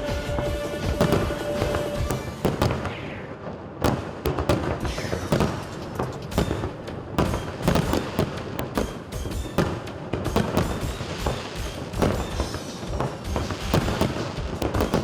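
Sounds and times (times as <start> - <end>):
fireworks bursting with crackle: 0.0 - 15.0.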